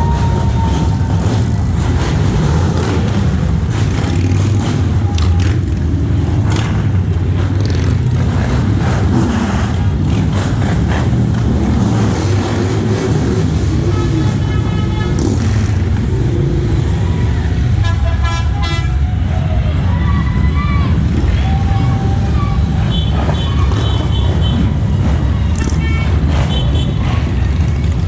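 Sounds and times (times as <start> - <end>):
motorcycles riding past: 0.0 - 28.0.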